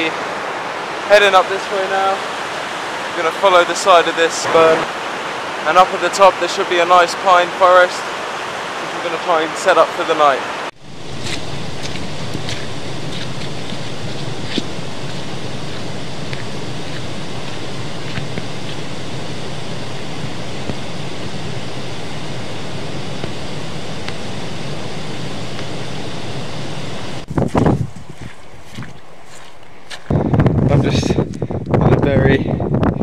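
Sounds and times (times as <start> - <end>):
mountain stream rushing: 0.0 - 27.3.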